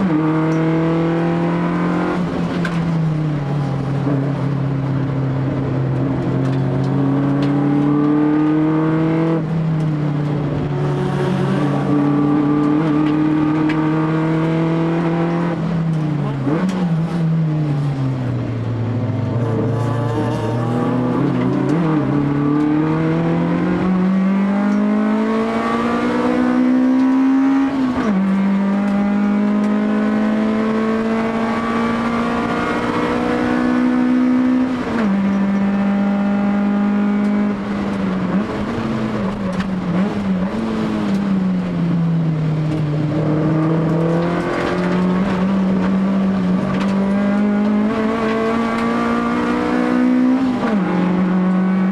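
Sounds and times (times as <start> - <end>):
race car engine revving: 0.0 - 51.9.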